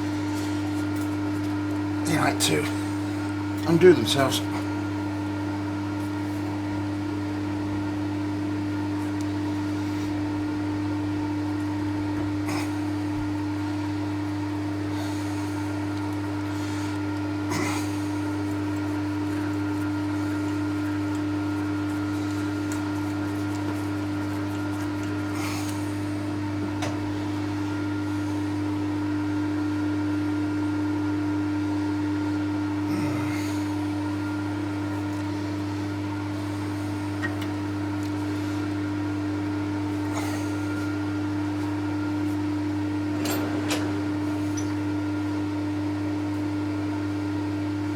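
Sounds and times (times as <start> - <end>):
milling machine humming: 0.0 - 47.9.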